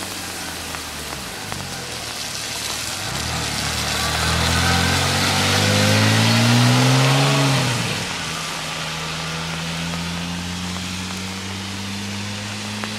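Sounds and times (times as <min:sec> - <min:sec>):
car engine accelerating: 0:00.0 - 0:12.9
constant hiss: 0:00.0 - 0:12.9.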